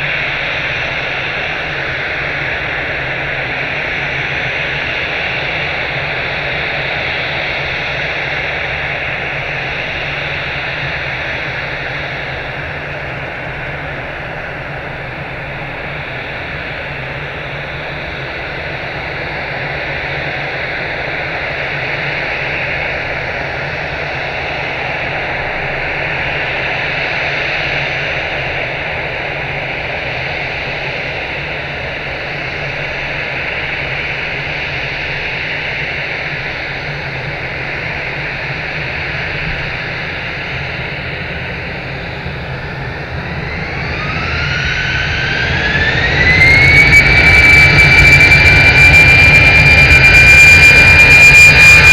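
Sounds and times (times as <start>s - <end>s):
jet engine rushing: 0.0s - 51.9s.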